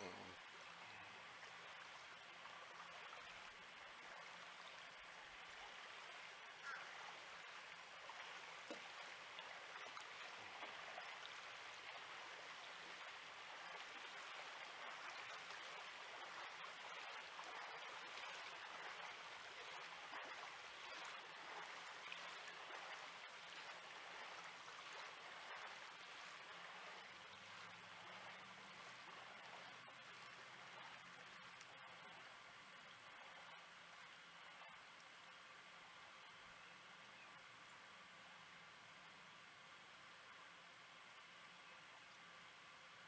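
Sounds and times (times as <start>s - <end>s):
faint low hum: 0.0s - 43.0s
outdoor background hiss: 0.0s - 43.0s.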